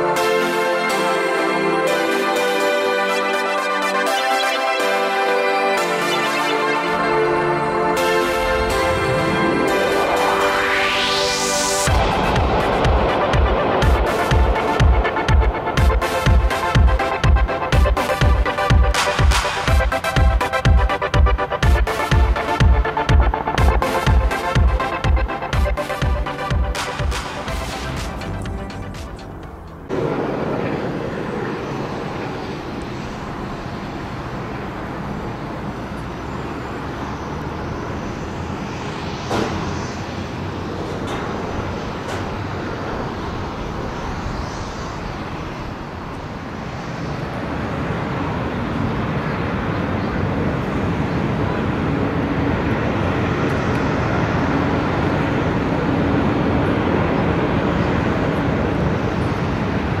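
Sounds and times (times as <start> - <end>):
propeller engines running: 0.0 - 60.0.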